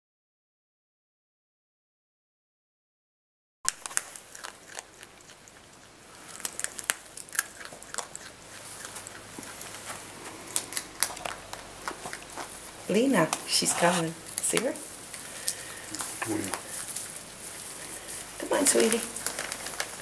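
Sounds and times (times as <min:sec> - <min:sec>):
groundhog chewing and crunching food: 0:03.7 - 0:20.0.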